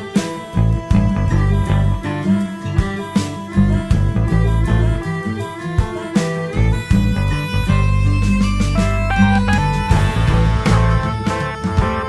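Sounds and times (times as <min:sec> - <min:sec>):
song with strummed guitar: 0:00.0 - 0:12.0.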